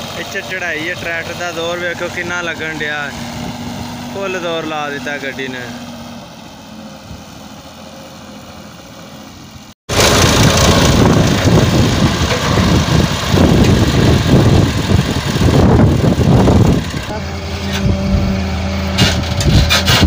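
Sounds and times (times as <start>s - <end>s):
distant tractor engine full throttle: 0.0s - 20.0s
excavator running: 0.0s - 20.0s
loud uneven engine rumble: 0.0s - 20.0s.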